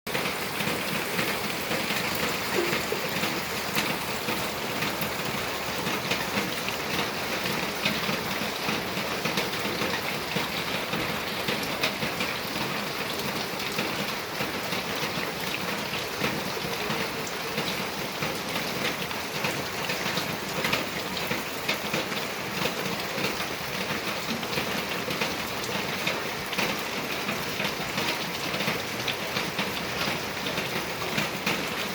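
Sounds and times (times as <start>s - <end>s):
raindrops pattering on surfaces: 0.1s - 31.9s
steady rain: 0.1s - 31.9s.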